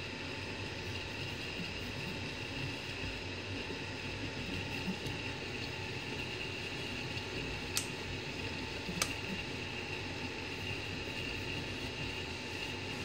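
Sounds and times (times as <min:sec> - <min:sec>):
printer fans and motors whirring: 0:00.0 - 0:13.0.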